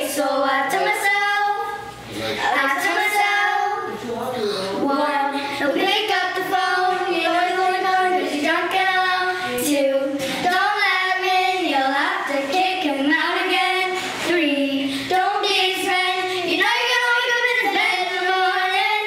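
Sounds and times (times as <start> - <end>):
girls singing together: 0.0 - 4.0, 4.8 - 19.0.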